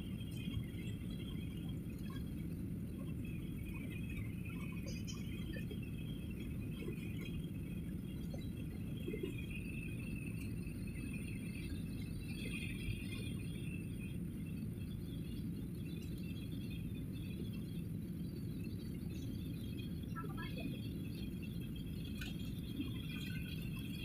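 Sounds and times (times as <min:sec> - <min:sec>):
jet engine and airflow rumble: 0:00.0 - 0:24.0.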